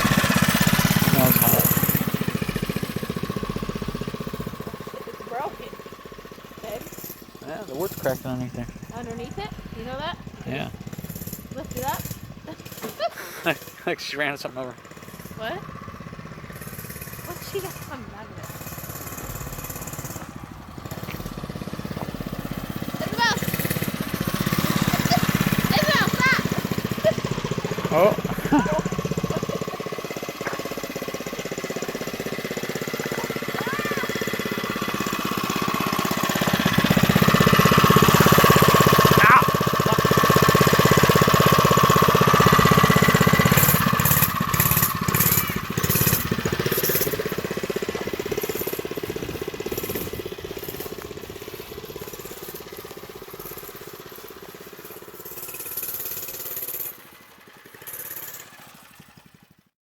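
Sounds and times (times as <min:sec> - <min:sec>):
mini bike engine running: 0:00.0 - 0:59.7.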